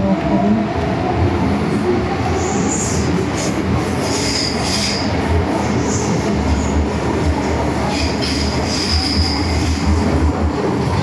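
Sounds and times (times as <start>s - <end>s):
train rumbling in tunnel: 0.0s - 11.0s.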